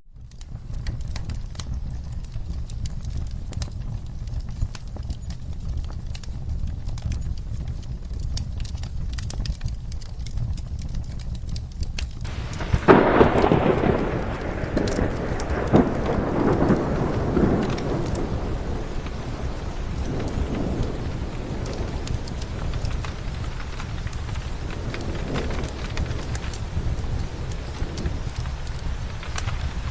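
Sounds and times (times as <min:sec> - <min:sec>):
steady rain: 0:00.0 - 0:29.9
thunderclap rolling: 0:00.1 - 0:29.9
fireplace crackling: 0:00.2 - 0:29.9.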